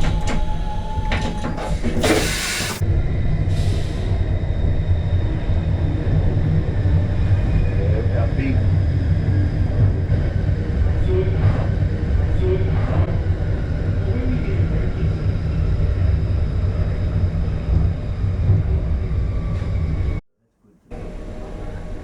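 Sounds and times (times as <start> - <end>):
electric train wheels on rails: 0.0 - 20.0, 20.9 - 22.0.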